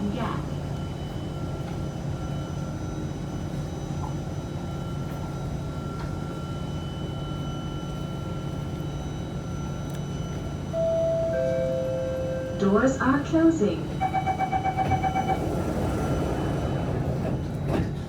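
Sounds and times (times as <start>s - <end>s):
metro train humming: 0.0s - 18.0s.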